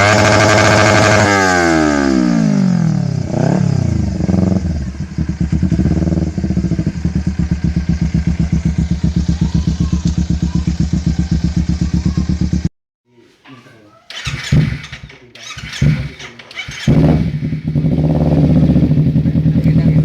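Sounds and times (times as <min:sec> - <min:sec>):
motorcycle engine revving and idling: 0:00.0 - 0:12.7, 0:14.1 - 0:20.0.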